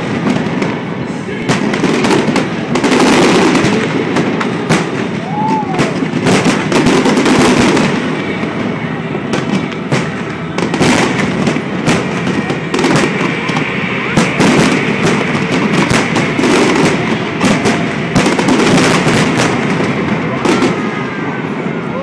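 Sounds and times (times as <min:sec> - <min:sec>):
continuous rumble: 0:00.0 - 0:22.0
fireworks bangs and crackles: 0:00.0 - 0:22.0.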